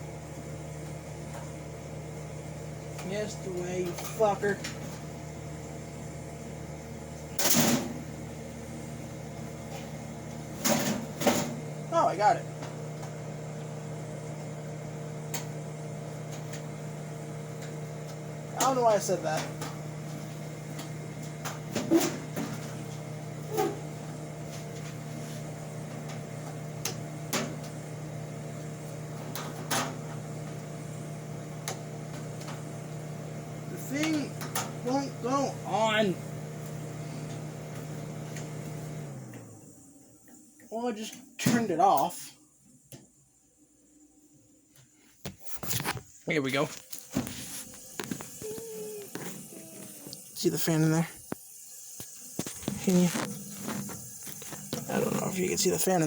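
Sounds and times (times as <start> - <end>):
dehumidifier humming: 0.0 - 56.0.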